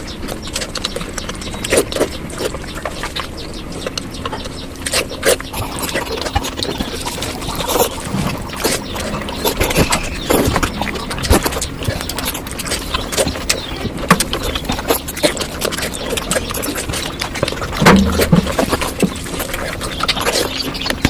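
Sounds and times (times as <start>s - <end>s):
chewing and lip-smacking: 0.0s - 21.0s.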